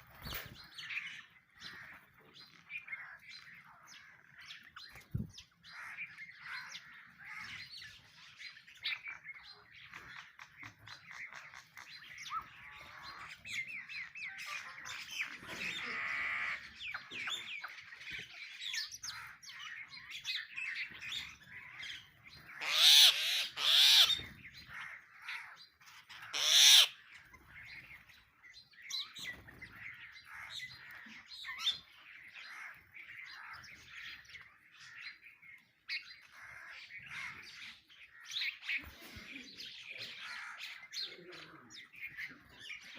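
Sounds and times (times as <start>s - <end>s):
loud bird calls: 0.0s - 42.9s
sparrows chirping and chattering: 0.0s - 42.9s.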